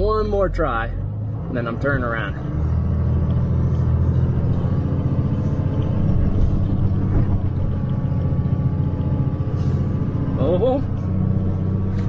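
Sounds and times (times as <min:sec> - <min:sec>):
diesel truck engine under throttle: 0:00.0 - 0:12.0.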